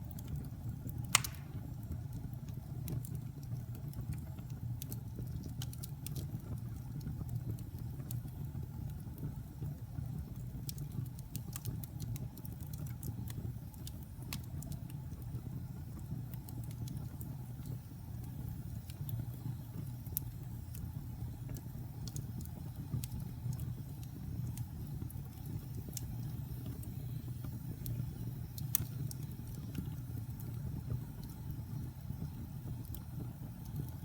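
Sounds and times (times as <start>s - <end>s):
fire crackling and popping: 0.0s - 34.0s
fire rumbling in fireplace: 0.0s - 34.0s.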